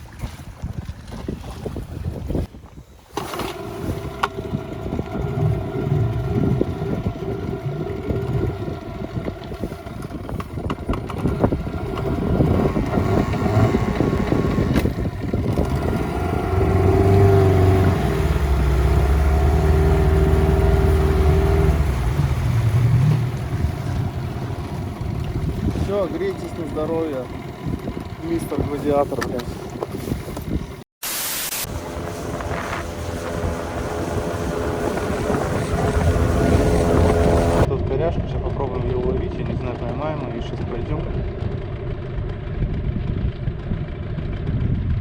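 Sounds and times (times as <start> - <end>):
wind buffeting microphone: 0.0 - 30.8, 31.7 - 45.0
outboard motor idling: 3.0 - 30.8, 31.7 - 45.0.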